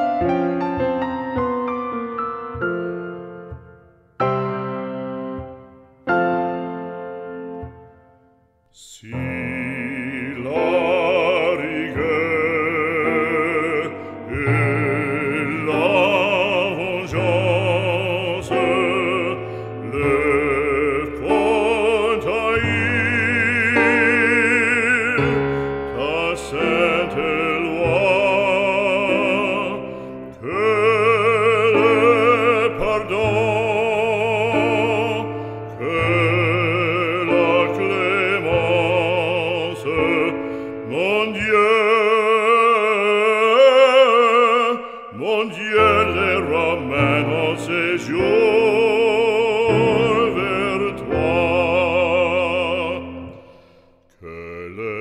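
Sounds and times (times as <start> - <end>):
operatic solo voice singing: 8.6 - 55.0.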